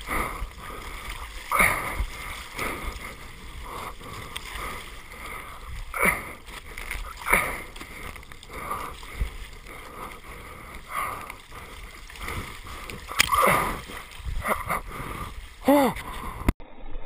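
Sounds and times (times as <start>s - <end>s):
water splashing against surfboard: 0.0s - 16.5s.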